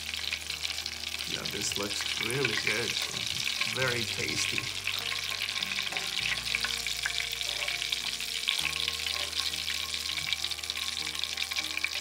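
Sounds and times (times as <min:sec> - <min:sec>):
fish deep-frying in oil: 0:00.0 - 0:12.0.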